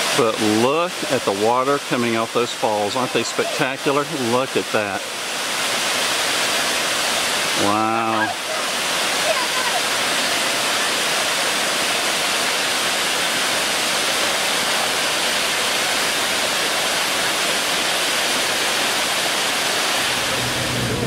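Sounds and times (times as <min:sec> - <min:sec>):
rush of falling water: 0:00.0 - 0:21.0.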